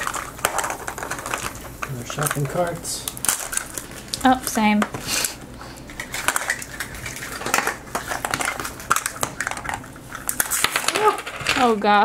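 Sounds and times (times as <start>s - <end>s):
plastic wrapper crinkling: 0.0s - 11.9s.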